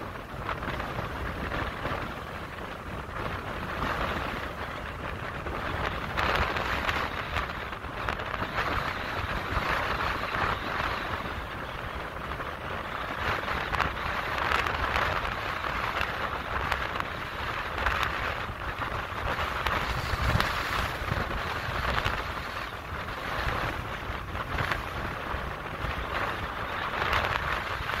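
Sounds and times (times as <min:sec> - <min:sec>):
wind buffeting microphone: 0:00.0 - 0:28.0
wind hissing across water: 0:00.0 - 0:28.0.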